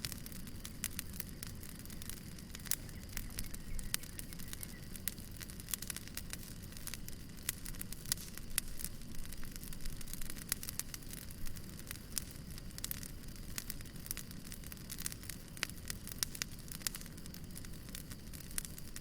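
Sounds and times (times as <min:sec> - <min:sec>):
fire pops and snaps: 0:00.0 - 0:19.0
low rumble of burning logs: 0:00.0 - 0:19.0.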